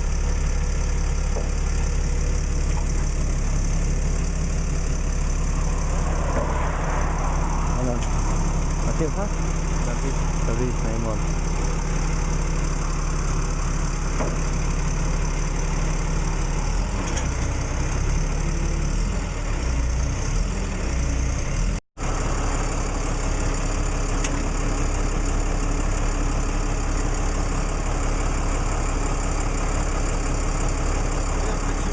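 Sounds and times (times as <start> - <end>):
vehicle engine running: 0.0 - 31.9.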